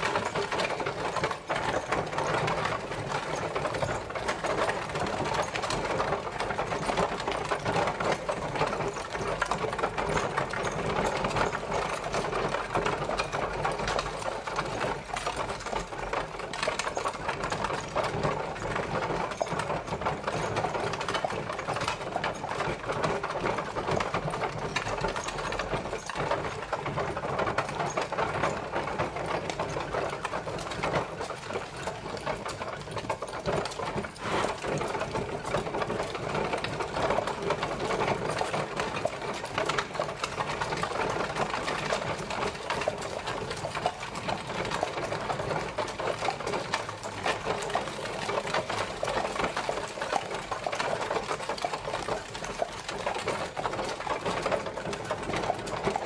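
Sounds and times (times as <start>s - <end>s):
carriage wheels rattling: 0.0s - 56.0s.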